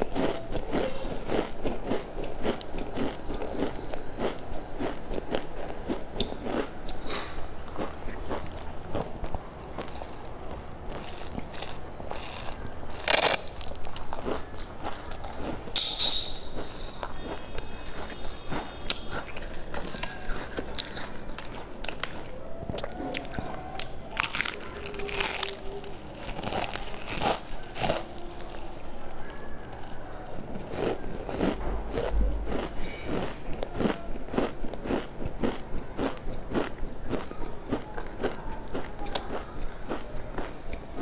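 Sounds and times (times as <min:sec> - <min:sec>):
potato chips crunching: 0:00.0 - 0:41.0.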